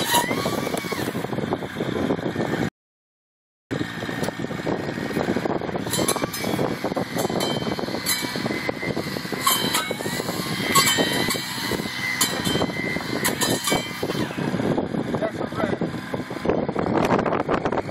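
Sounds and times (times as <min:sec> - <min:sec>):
truck engine and hydraulics running: 0:00.0 - 0:02.7, 0:03.7 - 0:17.9.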